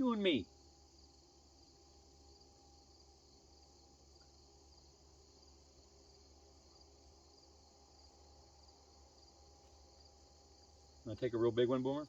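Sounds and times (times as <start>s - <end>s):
crickets chirping faintly: 0.0s - 12.0s.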